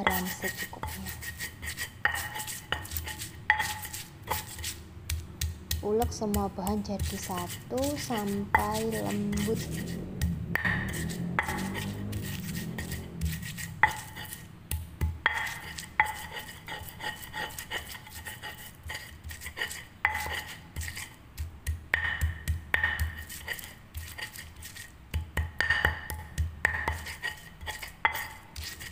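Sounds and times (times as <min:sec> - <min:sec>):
stone pestle grinding: 0:00.0 - 0:28.9.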